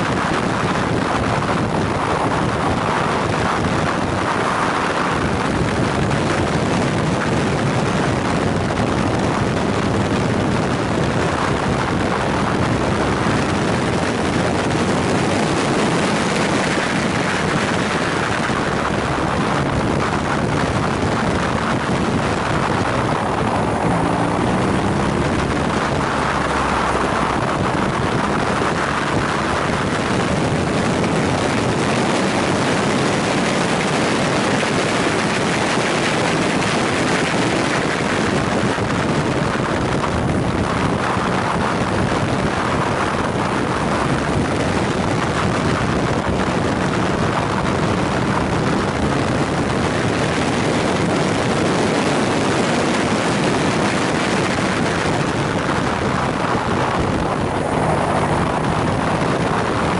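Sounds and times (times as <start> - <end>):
motorcycle engine running: 0.0 - 59.9
wind rushing on microphone: 0.0 - 59.9.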